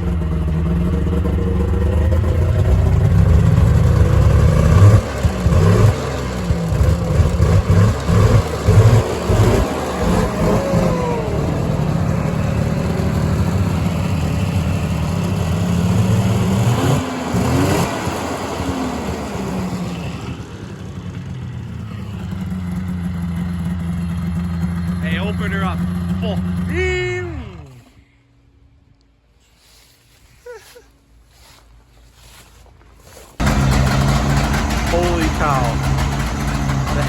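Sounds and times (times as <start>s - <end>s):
small engine revving: 0.0s - 28.0s, 33.4s - 37.0s.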